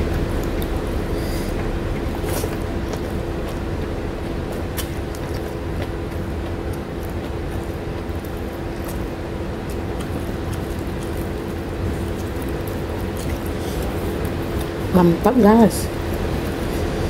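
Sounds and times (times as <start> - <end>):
wet chewing and lip-smacking: 0.0 - 15.2
constant hum: 0.0 - 17.0
steady low rumble: 0.0 - 17.0.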